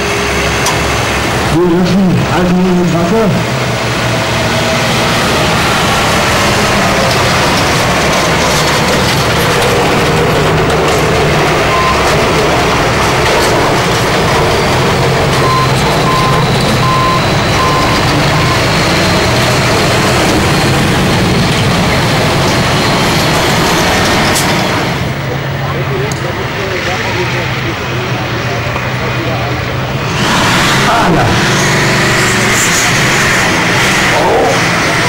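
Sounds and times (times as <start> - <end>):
tractor engines idling loudly: 0.0 - 35.0.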